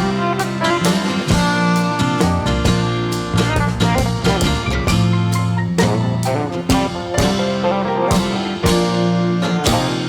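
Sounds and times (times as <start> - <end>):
drum strikes: 0.0 - 10.0
instrumental rock music: 0.0 - 10.0.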